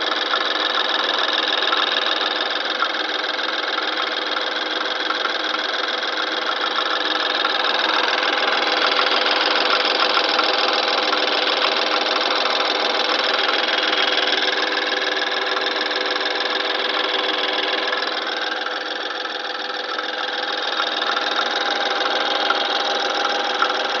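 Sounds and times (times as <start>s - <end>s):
car engine rattling: 0.0s - 24.0s.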